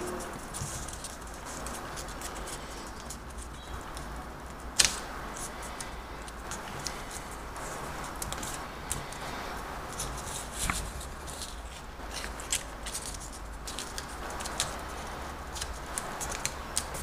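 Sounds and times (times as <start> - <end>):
paper bill rustling and crackling: 0.0 - 17.0
steady hiss: 0.0 - 17.0.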